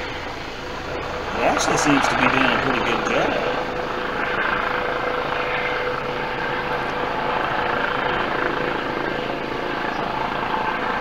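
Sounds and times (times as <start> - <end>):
helicopter rotor and turbine drone: 0.0 - 11.0.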